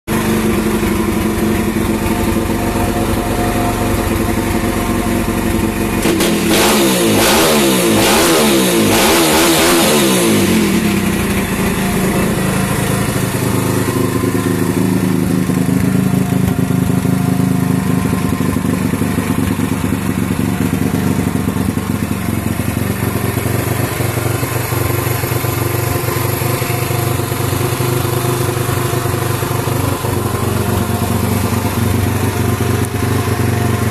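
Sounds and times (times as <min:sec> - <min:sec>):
motorbike engine idling and revving: 0:00.0 - 0:33.9.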